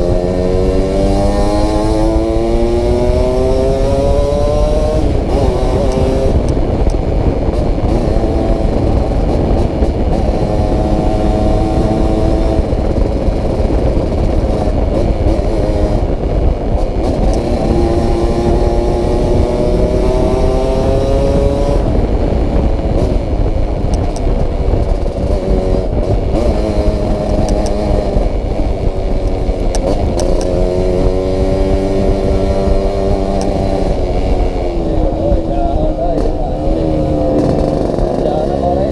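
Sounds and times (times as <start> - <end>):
motorcycle engine accelerating: 0.0 - 38.9
wind rumble: 0.0 - 38.9.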